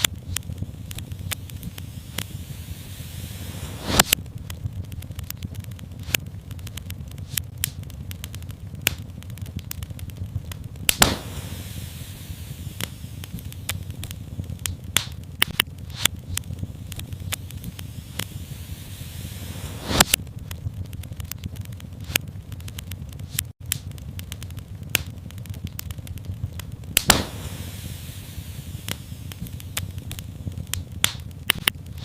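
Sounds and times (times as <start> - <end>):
low rumble and hiss: 0.0 - 32.0
wood fire crackling: 0.0 - 32.0.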